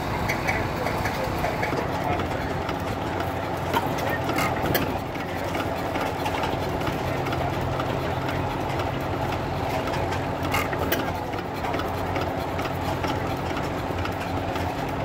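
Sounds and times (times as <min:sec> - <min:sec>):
sharp engine clicks: 0:00.0 - 0:15.0
small engine running: 0:00.0 - 0:15.0.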